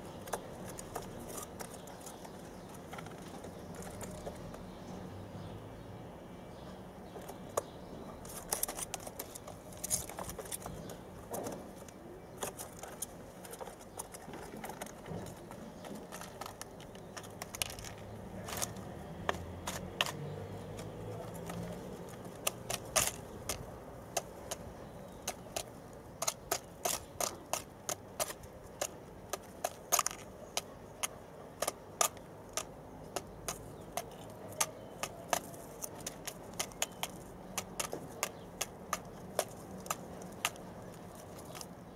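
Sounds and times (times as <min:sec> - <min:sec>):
doves pecking and shuffling: 0:00.0 - 0:41.9.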